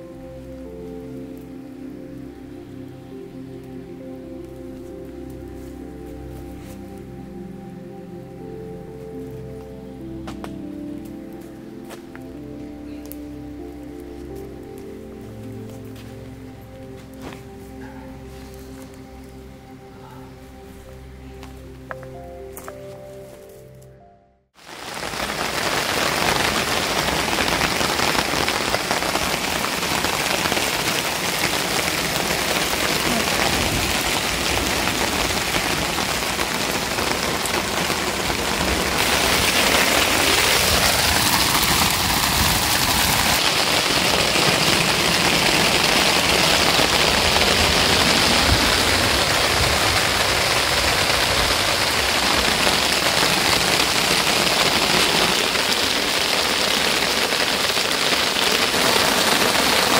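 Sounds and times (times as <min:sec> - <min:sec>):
heavy rain pouring: 0:00.0 - 0:20.5, 0:24.6 - 0:59.9.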